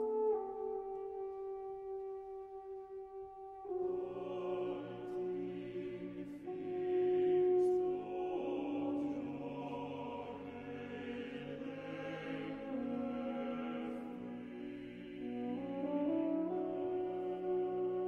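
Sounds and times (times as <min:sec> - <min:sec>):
choir singing slow chords: 0:00.0 - 0:18.0.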